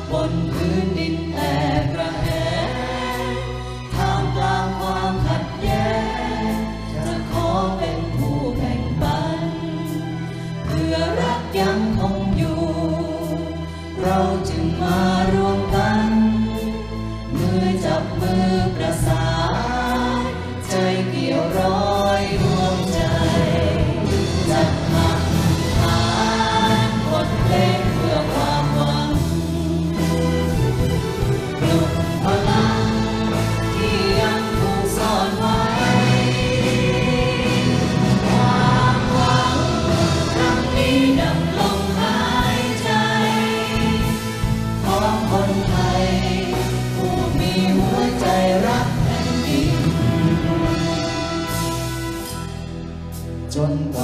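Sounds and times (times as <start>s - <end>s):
solo voices singing: 0.0s - 52.3s
choir singing: 0.0s - 52.4s
orchestral accompaniment: 0.0s - 54.0s.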